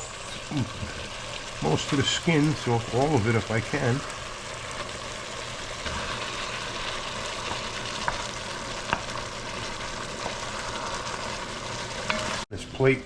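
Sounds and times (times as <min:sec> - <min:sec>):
vegetables sizzling in a pan: 0:00.0 - 0:12.5.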